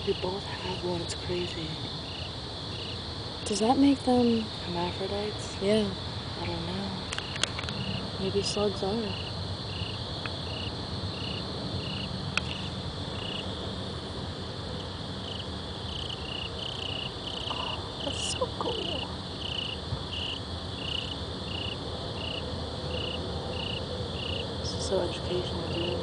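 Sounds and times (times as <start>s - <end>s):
cricket chirping: 0.0s - 26.0s
low background noise: 0.0s - 26.0s.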